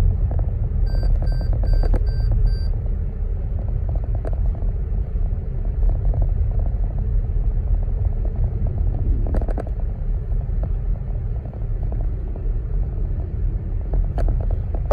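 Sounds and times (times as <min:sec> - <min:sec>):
car driving rumble: 0:00.0 - 0:14.9.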